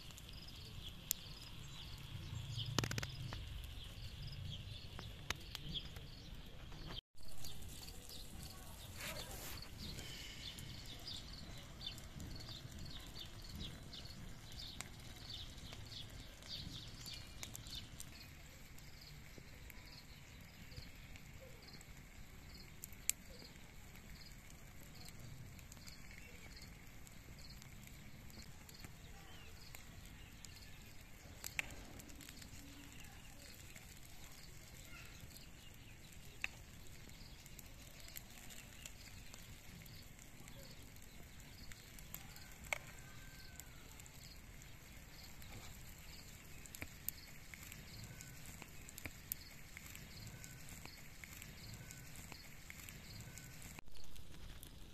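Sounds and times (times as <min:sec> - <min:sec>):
campfire crackling: 0:00.0 - 0:54.9.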